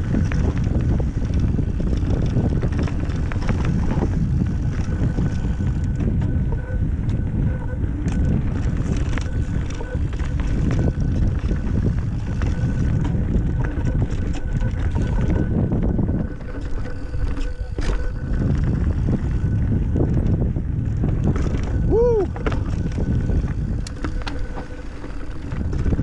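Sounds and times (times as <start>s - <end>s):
bike rattles and knocks: 0.0s - 26.0s
bike tyre noise on dirt: 0.0s - 26.0s
wind rumbling over microphone: 0.0s - 26.0s.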